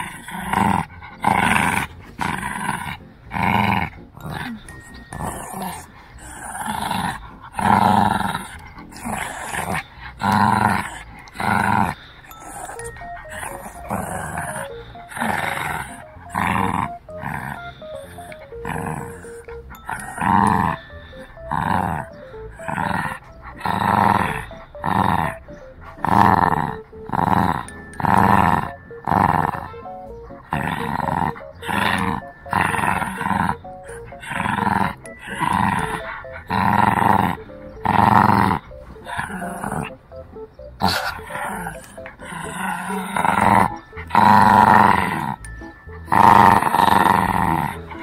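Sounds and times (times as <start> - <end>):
puppy play growling: 0.0 - 48.0.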